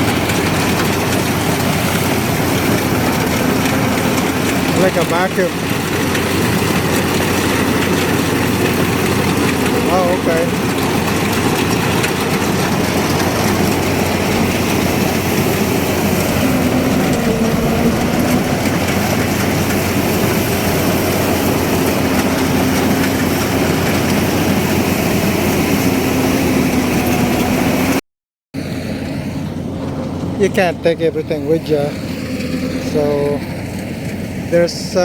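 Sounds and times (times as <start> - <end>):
combine harvester drone: 0.0 - 28.0, 28.6 - 35.0.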